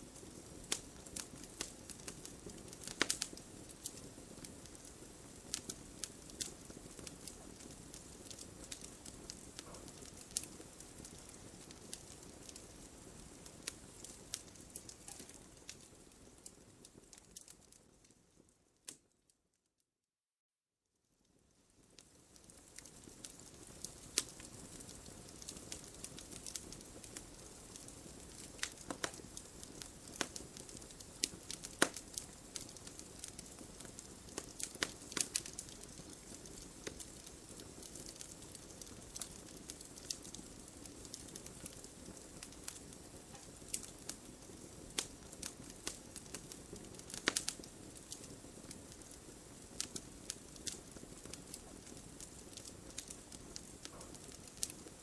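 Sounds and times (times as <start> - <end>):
fire crackling and popping: 0.0 - 19.2, 21.2 - 55.0.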